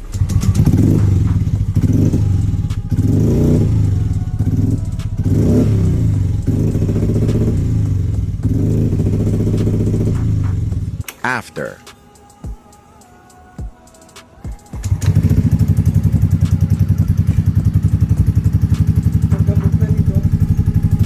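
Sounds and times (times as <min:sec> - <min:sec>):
scooter engine running unevenly: 0:00.0 - 0:11.0, 0:14.8 - 0:21.0.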